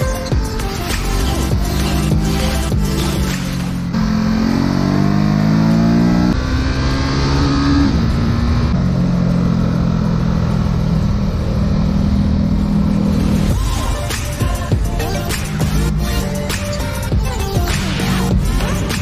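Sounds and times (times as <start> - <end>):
motorcycle engine accelerating: 0.4 - 19.0.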